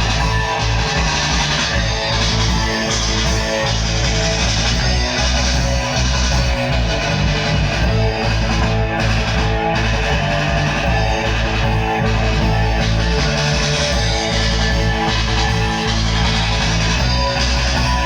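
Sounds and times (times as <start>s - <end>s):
guitar music: 0.0s - 18.0s.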